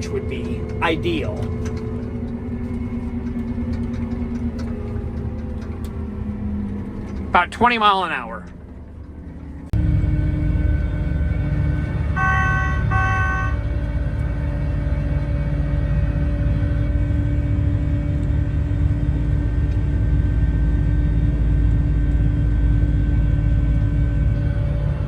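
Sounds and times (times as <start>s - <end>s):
combine harvester engine rumble: 0.0s - 25.0s.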